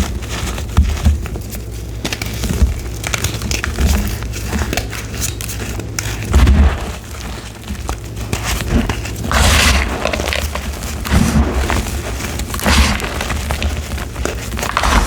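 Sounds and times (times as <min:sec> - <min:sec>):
chalk block crunching: 0:01.9 - 0:15.0.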